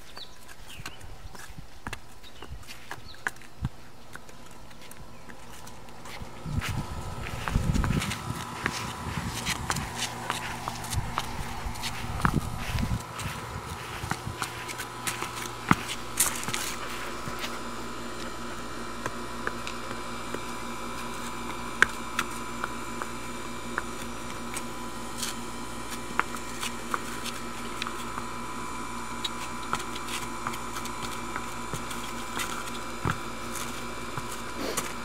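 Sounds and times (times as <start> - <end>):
horse hooves on concrete: 0.0 - 35.0
steady background hum: 0.0 - 35.0.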